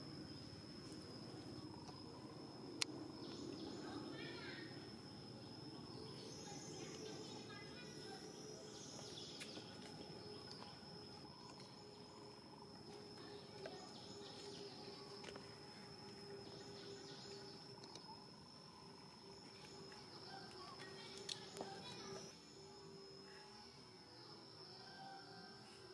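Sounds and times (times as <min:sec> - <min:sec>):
high-pitched insect drone: 0:00.0 - 0:25.9
low steady hum: 0:00.0 - 0:25.9.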